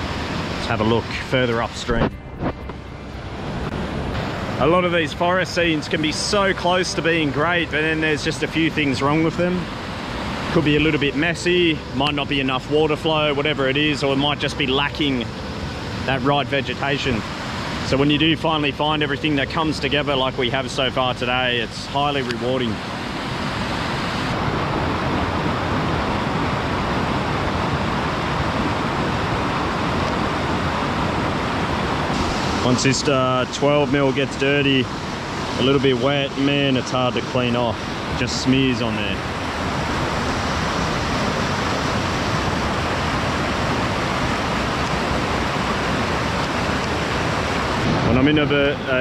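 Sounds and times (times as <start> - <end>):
stream rushing over rocks: 3.5 - 49.0.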